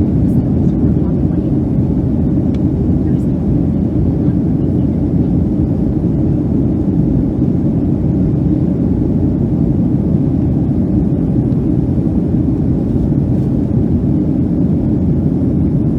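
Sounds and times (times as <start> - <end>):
airliner cabin engine rumble: 0.0 - 15.9.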